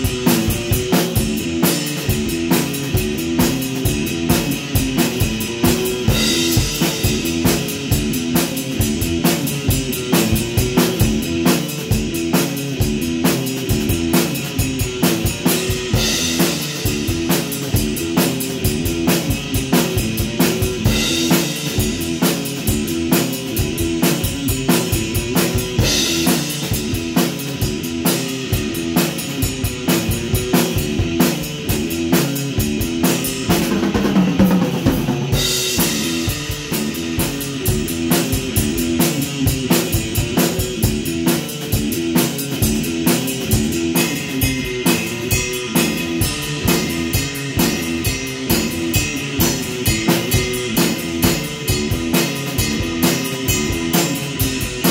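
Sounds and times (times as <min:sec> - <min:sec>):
drum beat: 0:00.0 - 0:54.9
electric guitar riff: 0:00.0 - 0:54.9.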